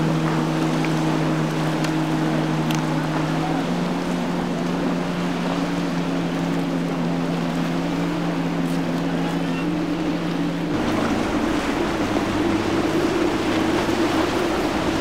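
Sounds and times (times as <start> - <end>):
deeper boat engine: 0.0 - 15.0
outboard motor running: 0.0 - 15.0
rush of spray and wind: 0.0 - 15.0.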